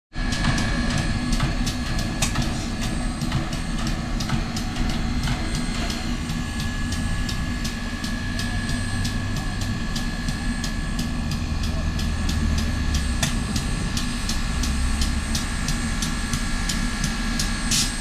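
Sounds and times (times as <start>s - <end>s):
steam locomotive rumble and hiss: 0.1s - 18.0s.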